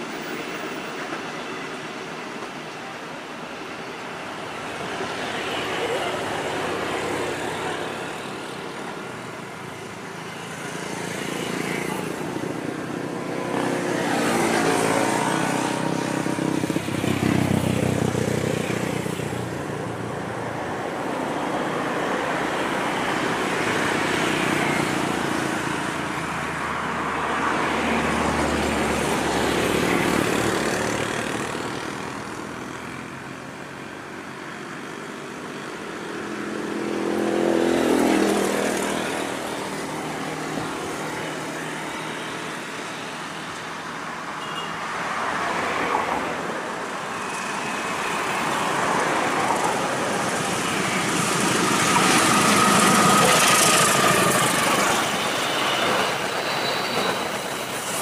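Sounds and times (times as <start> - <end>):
diesel locomotive hauling train: 0.0 - 58.0
trains rumbling in tunnel: 0.0 - 58.0.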